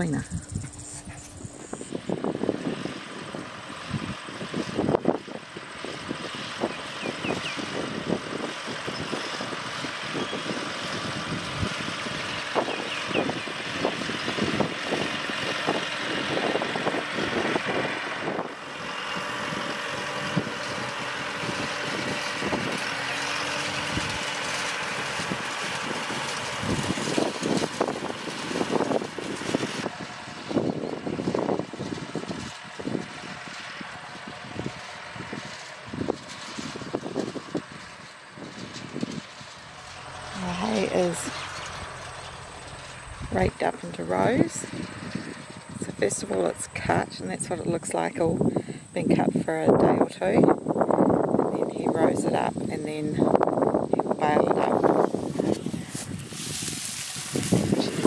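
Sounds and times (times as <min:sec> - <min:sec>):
tractor engine running: 0:00.0 - 0:58.0
wind buffeting: 0:00.0 - 0:58.0.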